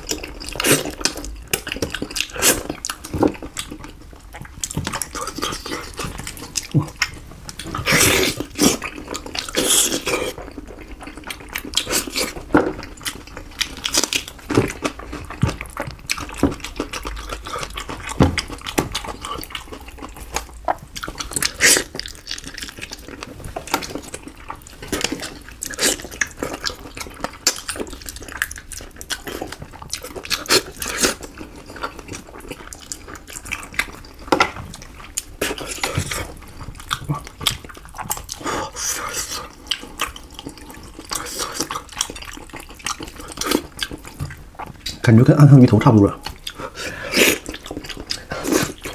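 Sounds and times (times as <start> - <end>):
wet lip smacking and chewing: 0.0 - 48.9.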